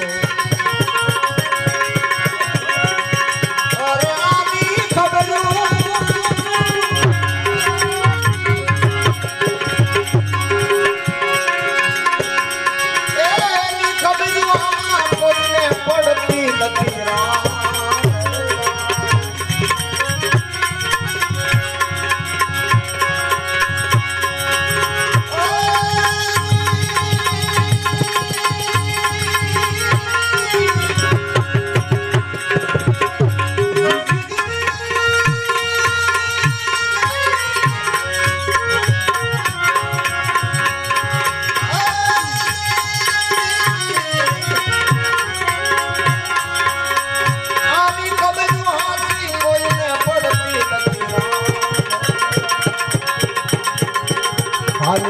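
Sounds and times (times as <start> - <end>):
sustained melodic instrument: 0.0 - 55.0
tabla rhythm: 0.0 - 55.0.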